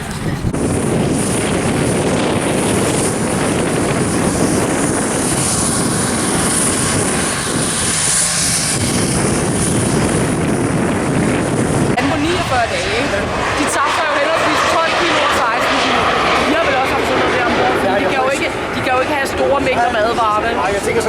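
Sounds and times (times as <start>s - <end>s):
aircraft engine noise: 0.0s - 21.0s.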